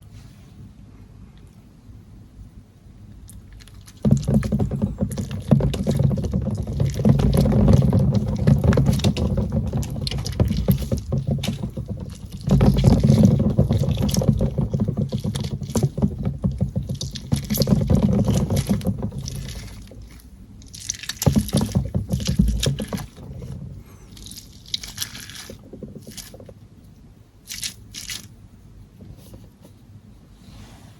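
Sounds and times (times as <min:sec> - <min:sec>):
crackling and scratching: 0:03.2 - 0:29.8.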